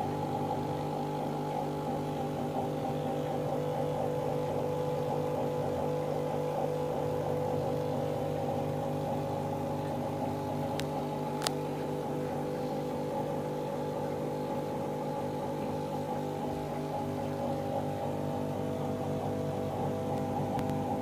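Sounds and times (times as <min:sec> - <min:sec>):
aquarium air pump humming: 0:00.0 - 0:21.0.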